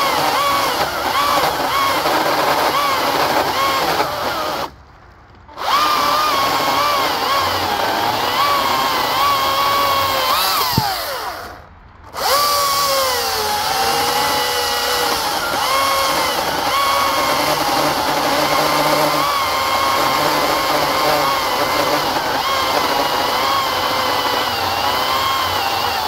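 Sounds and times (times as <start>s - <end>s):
electric chainsaw cutting log: 0.0s - 4.8s, 5.5s - 26.0s.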